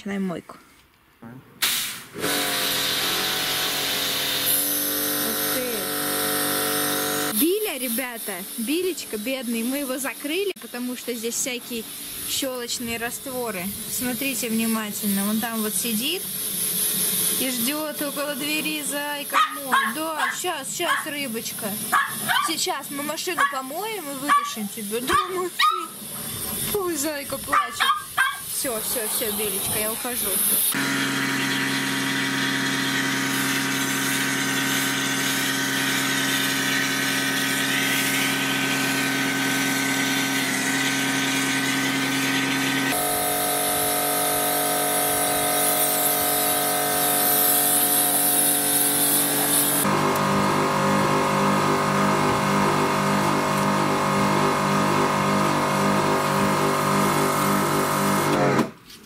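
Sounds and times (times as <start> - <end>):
pressure washer motor humming: 1.7 - 58.7.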